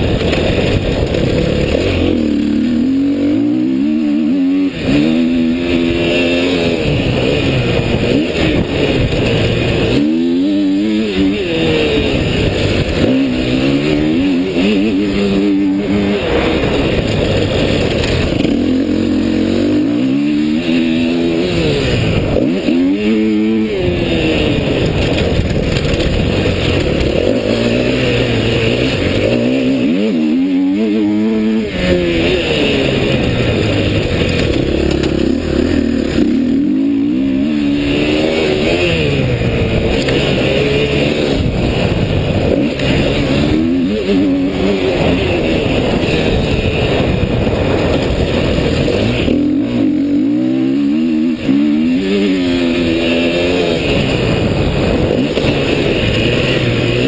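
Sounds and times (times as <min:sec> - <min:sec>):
dirt bike engine revving: 0:00.0 - 0:57.0
rush of noise: 0:00.0 - 0:57.0.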